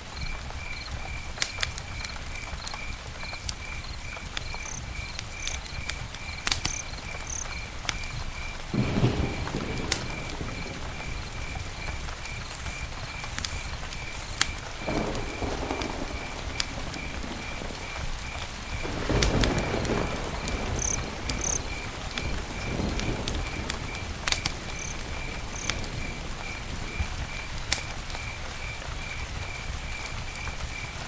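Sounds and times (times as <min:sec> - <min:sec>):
campfire crackling and popping: 0:00.0 - 0:31.0
cricket chirping: 0:00.0 - 0:31.0
deep rushing of fire: 0:00.0 - 0:31.0.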